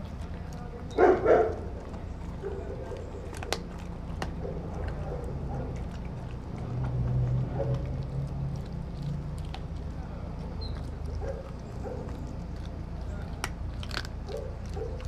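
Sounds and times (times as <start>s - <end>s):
dog chewing food from metal bowl: 0.0s - 15.0s.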